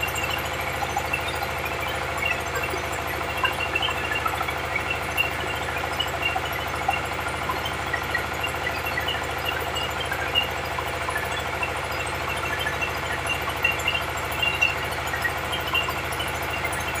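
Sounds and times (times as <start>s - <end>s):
diesel engine running: 0.0s - 17.0s
mill ticks and rattles: 0.0s - 17.0s.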